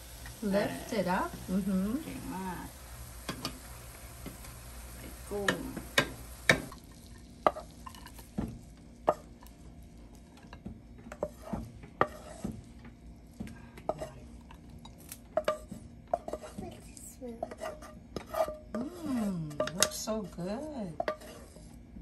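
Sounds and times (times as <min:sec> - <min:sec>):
spatula scraping and knocking pan: 0:03.2 - 0:06.8, 0:07.4 - 0:16.8, 0:17.4 - 0:22.0.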